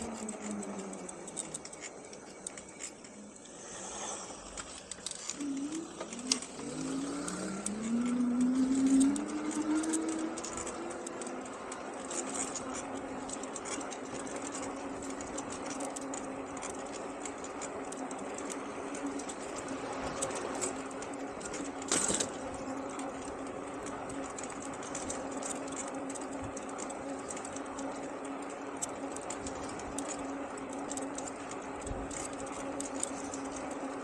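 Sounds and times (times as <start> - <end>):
road and wind noise: 0.0 - 34.0
electric motor humming: 3.2 - 34.0.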